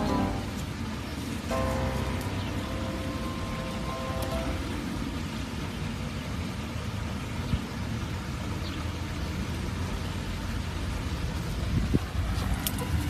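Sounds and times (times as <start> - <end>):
background rumble and hiss: 0.0 - 13.0.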